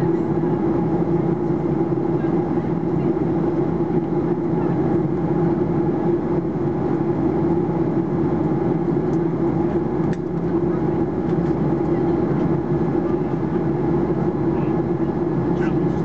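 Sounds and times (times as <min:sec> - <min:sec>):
airplane cabin engine roar: 0:00.0 - 0:16.0
constant low hum: 0:00.0 - 0:16.0.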